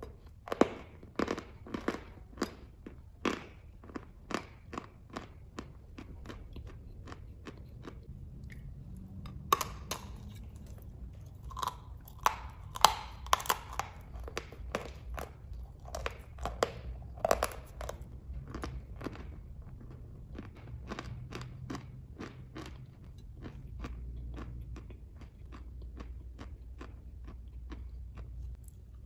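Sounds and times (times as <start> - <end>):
chewing dry chalk: 0.0 - 29.0.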